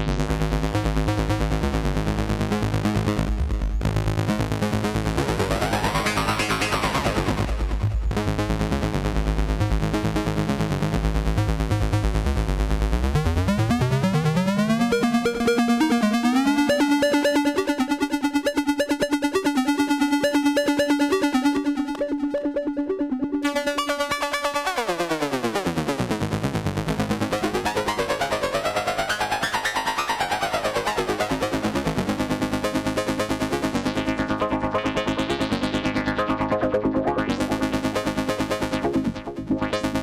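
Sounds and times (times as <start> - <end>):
buzzy synthesizer tone pulsing: 2.8 - 8.4, 13.5 - 40.0.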